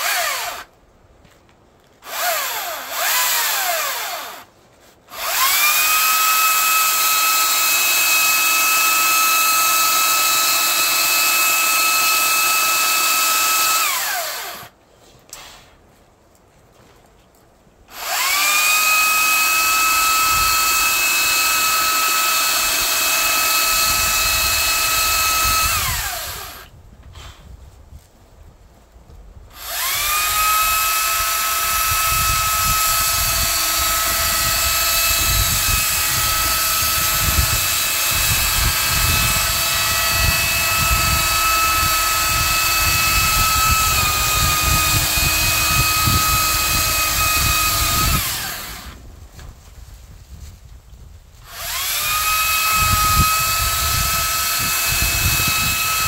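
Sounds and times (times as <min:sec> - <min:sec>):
chainsaw cutting wood: 0:00.0 - 0:00.7, 0:02.0 - 0:04.5, 0:05.1 - 0:15.6, 0:17.9 - 0:27.3, 0:29.5 - 0:49.5, 0:51.4 - 0:56.0.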